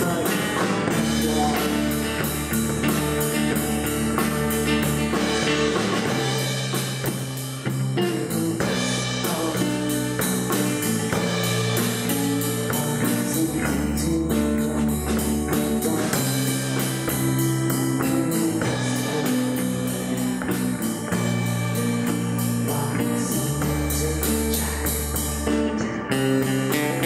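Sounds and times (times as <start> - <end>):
drum kit beat: 0.0 - 27.0
person singing: 0.0 - 27.0
strummed acoustic guitar: 0.0 - 27.0.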